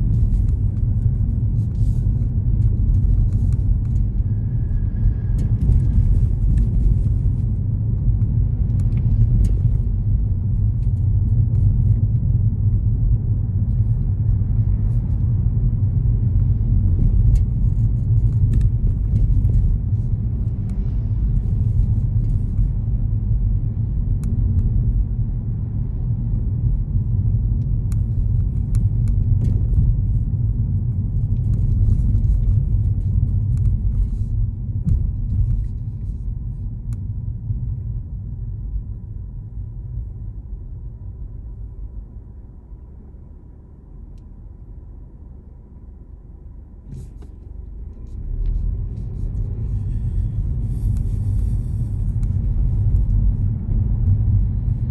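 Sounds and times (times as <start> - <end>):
car driving rumble: 0.0 - 54.9.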